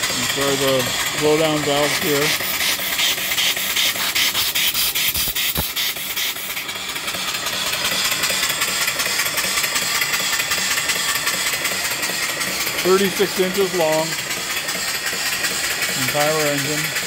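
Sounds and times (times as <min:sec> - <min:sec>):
steam engine hissing: 0:00.0 - 0:17.0.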